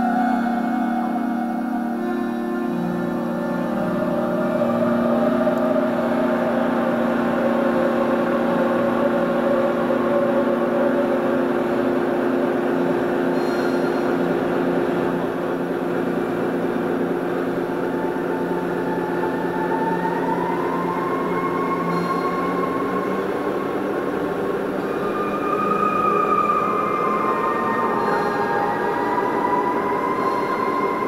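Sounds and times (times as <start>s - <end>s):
ambient electronic synthesizer drone: 0.0s - 31.0s.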